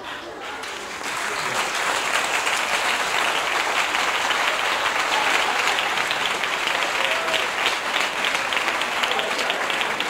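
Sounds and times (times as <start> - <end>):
audience applauding: 0.6 - 10.0.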